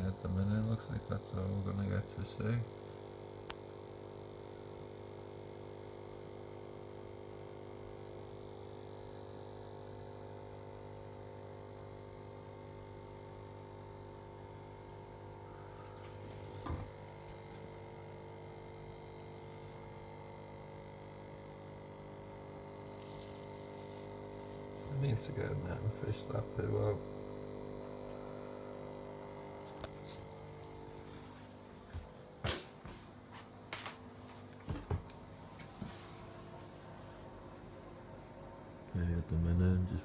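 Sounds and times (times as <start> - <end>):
aquarium equipment humming: 0.0 - 40.0.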